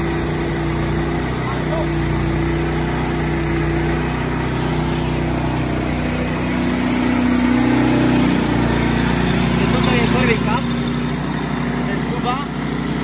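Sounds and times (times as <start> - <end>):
sawmill engine running under load: 0.0 - 13.0.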